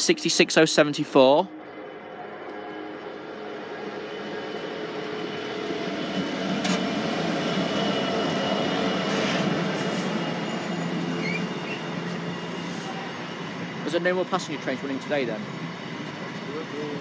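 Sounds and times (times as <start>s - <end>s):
diesel locomotive engine drone: 0.0s - 17.0s
wagons rumbling on rails: 0.0s - 17.0s.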